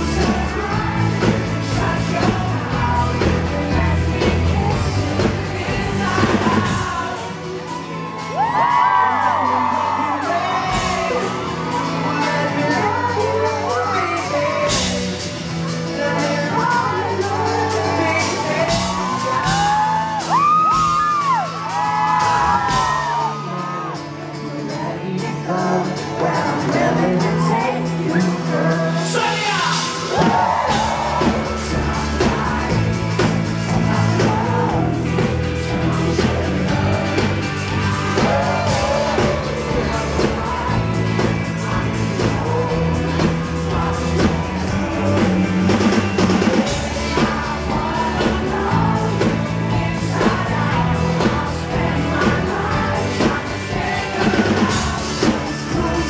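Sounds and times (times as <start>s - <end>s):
man singing: 0.0s - 56.0s
pop-rock band playing live: 0.0s - 56.0s.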